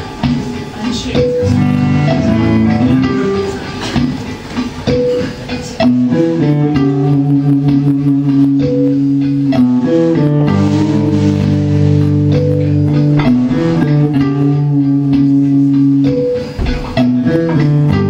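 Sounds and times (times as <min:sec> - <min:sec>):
guitar music: 0:00.0 - 0:18.0
bass guitar held notes: 0:01.2 - 0:18.0.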